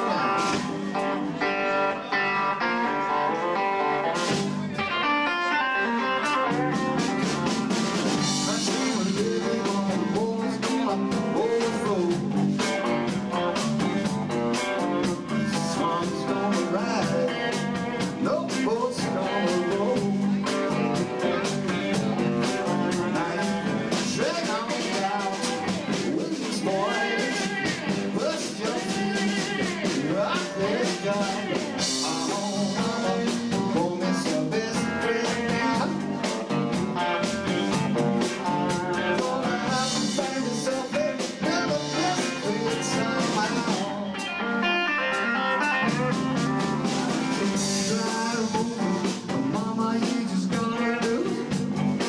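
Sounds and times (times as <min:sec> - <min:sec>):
live rock band playing: 0:00.0 - 0:52.0
man singing: 0:00.0 - 0:52.0.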